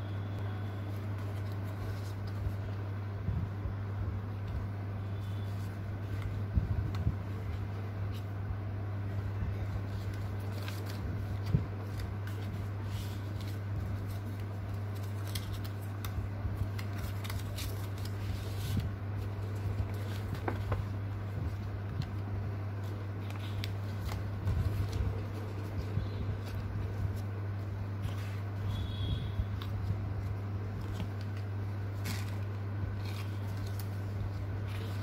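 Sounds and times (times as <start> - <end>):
steady low hum: 0.0 - 35.0
paper pages rustling: 0.7 - 2.9, 5.2 - 8.4, 9.0 - 35.0.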